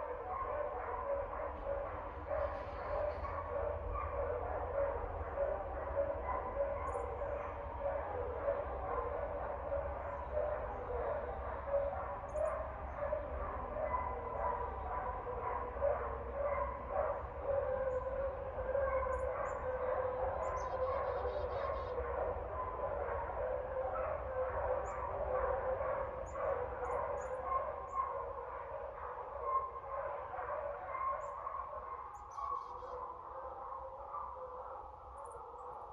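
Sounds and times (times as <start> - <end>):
dogs barking: 0.0 - 35.9.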